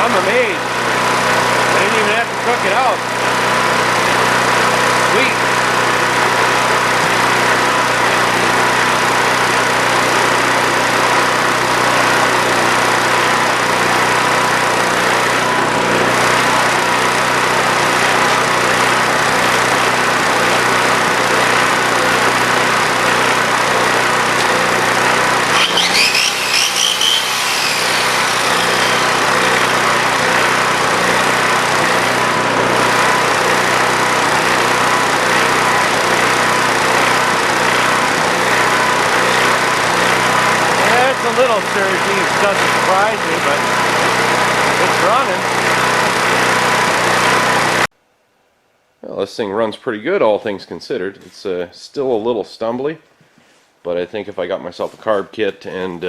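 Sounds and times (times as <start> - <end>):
generator engine running unevenly: 0.0 - 47.9.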